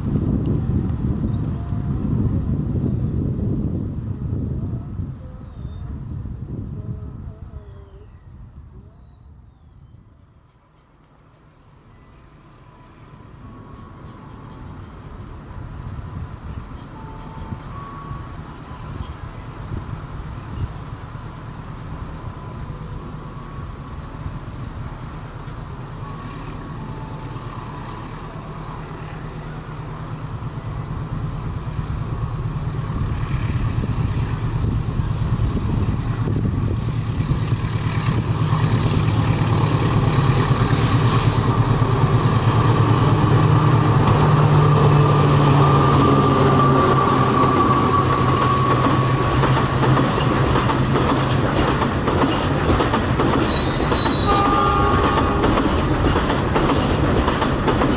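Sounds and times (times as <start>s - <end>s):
train running on track: 0.0s - 57.9s.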